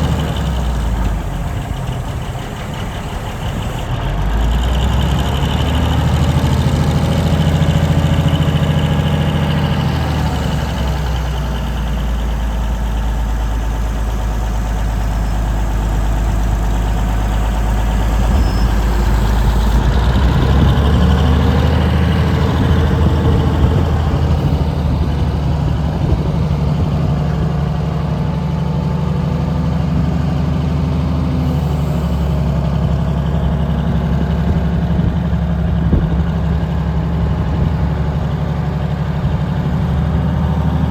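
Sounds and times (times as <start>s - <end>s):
crane engine running: 0.0s - 40.9s.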